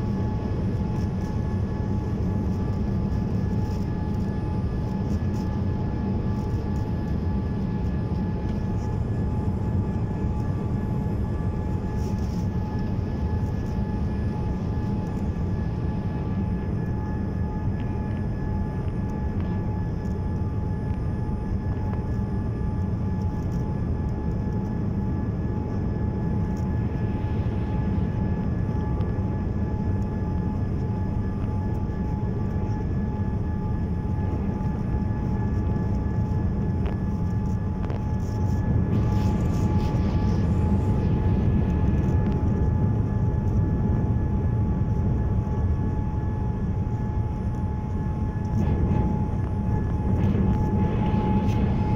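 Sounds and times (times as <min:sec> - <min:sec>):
airplane cabin airflow rush: 0:00.0 - 0:51.9
thin steady whine: 0:00.0 - 0:51.9.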